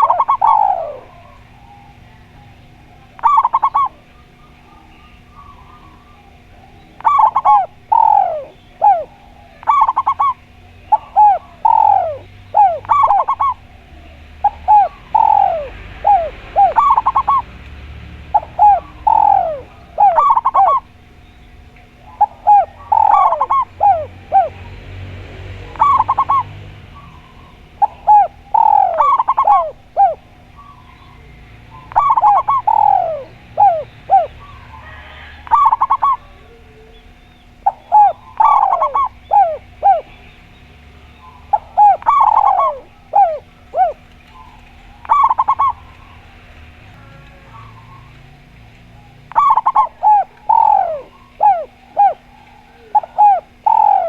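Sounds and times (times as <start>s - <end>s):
doves cooing: 0.0s - 54.0s
faint steady hum: 0.0s - 54.0s.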